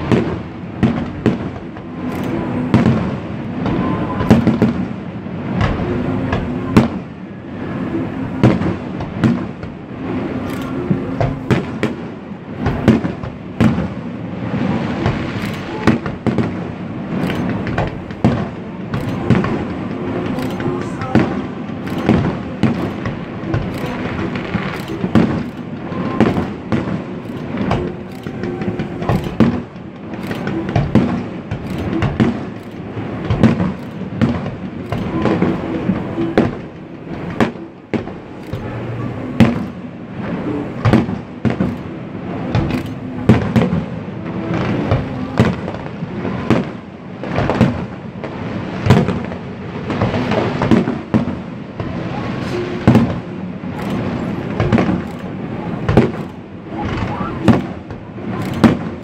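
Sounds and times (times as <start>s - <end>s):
fireworks booming: 0.0s - 59.0s
fireworks crackling: 0.0s - 59.0s.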